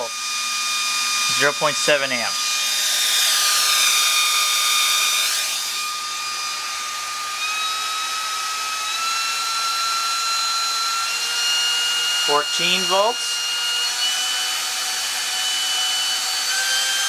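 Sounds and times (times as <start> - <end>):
hair dryer motor whine: 0.0 - 17.0.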